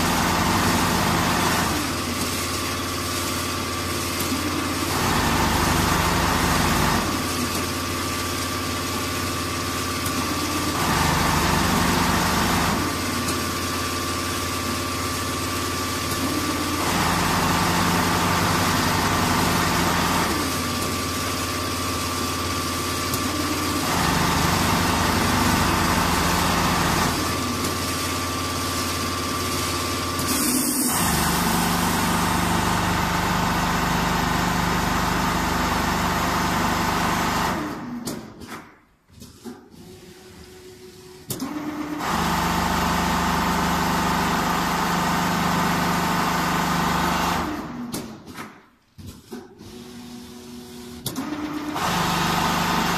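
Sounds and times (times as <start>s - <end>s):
sewing machine running: 0.0s - 38.0s, 39.7s - 47.9s, 49.6s - 52.9s.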